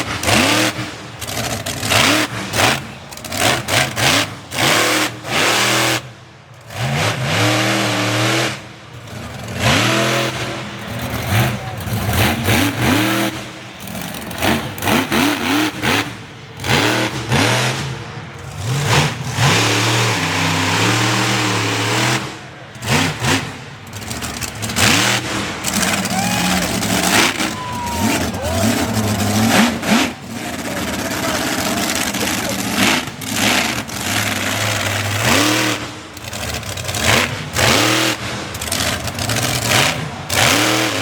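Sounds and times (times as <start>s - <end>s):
monster truck engine revving: 0.0s - 41.0s.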